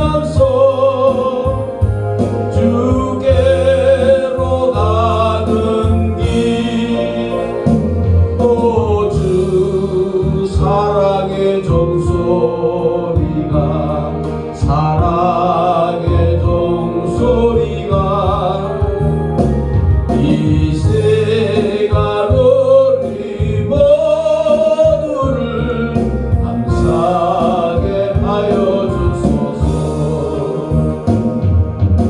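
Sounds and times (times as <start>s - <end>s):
person singing hymn with vibrato: 0.0s - 19.0s, 20.1s - 31.6s
instrumental accompaniment: 0.0s - 32.0s.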